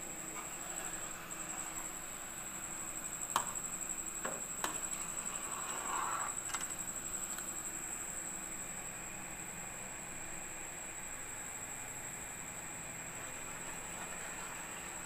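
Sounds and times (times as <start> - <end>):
steady hiss: 0.0 - 15.0
thin high whine: 0.0 - 15.0.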